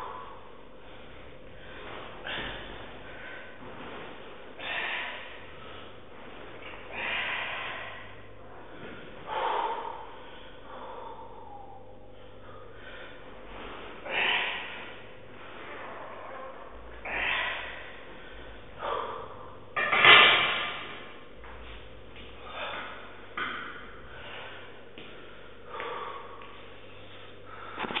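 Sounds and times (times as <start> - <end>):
man breathing hard: 0.0 - 19.7, 20.4 - 28.0.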